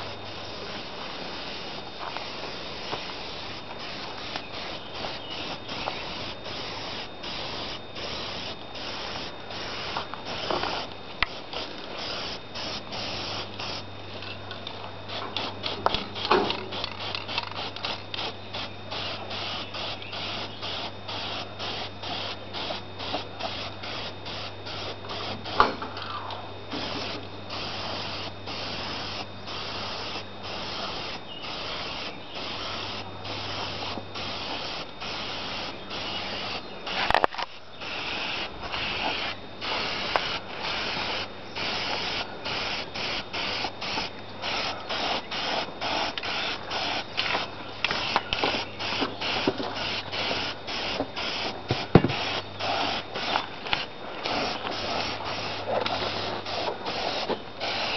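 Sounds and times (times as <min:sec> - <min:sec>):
spray paint can hissing: 0:00.0 - 0:13.8, 0:15.1 - 0:25.6, 0:26.7 - 0:57.9.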